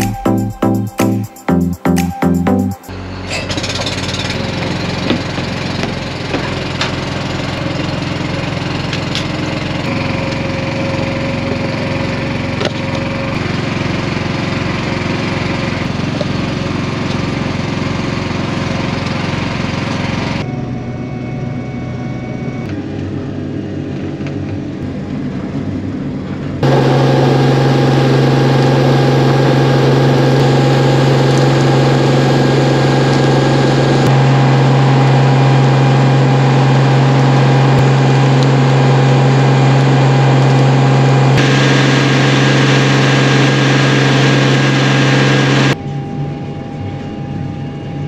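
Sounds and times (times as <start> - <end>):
vehicle engine running: 0.0 - 45.8.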